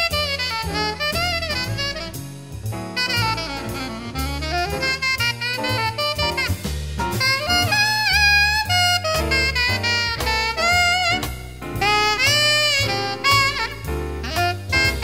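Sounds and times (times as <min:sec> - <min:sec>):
alto saxophone melody: 0:00.0 - 0:15.0
bass: 0:00.0 - 0:15.0
drums: 0:00.0 - 0:15.0.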